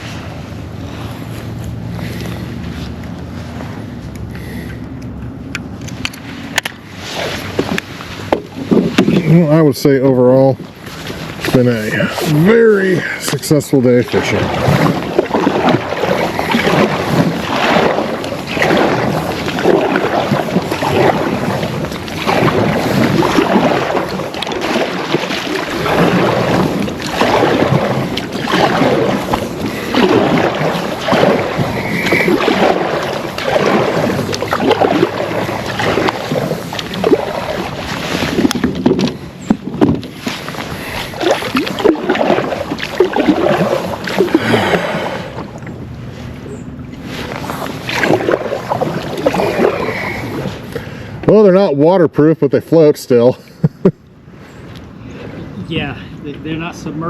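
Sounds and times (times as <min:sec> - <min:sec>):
wind buffeting microphone: 0:00.0 - 0:51.7
water splashing around kayak: 0:00.0 - 0:57.0.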